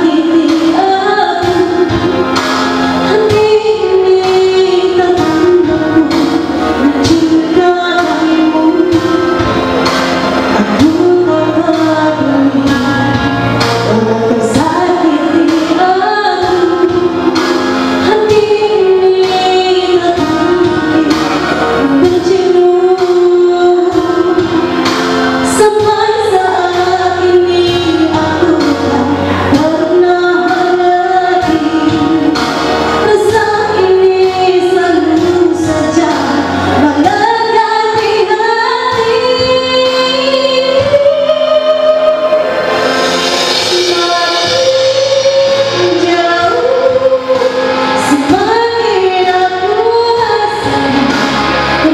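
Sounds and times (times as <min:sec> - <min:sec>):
backing music: 0:00.0 - 0:51.9
woman singing: 0:00.0 - 0:51.9.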